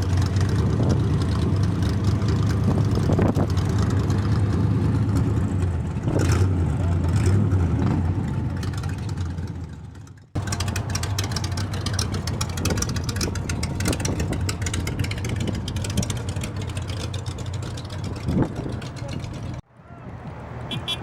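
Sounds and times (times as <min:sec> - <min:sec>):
engine ticking rattle: 0:00.0 - 0:19.6
car engine rumbling: 0:00.0 - 0:21.0.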